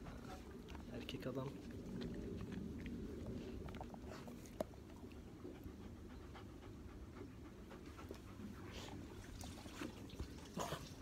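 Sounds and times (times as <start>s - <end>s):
dog panting: 0.0s - 9.5s.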